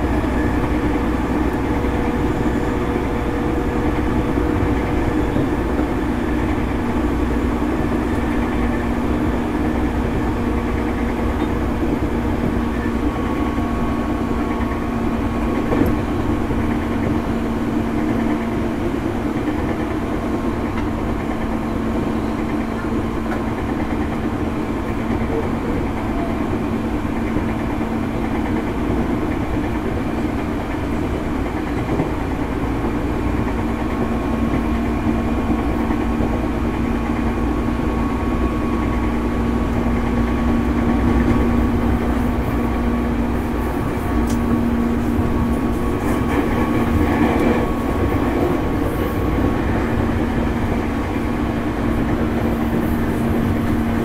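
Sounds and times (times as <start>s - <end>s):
electric train motor hum: 0.0s - 54.0s
wheels rumbling on rail: 0.0s - 54.0s.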